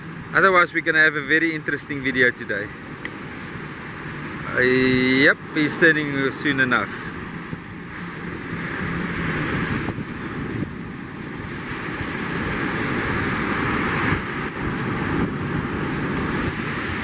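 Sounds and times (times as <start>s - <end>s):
outboard motor droning: 0.0s - 17.0s
wind buffeting microphone: 1.9s - 17.0s.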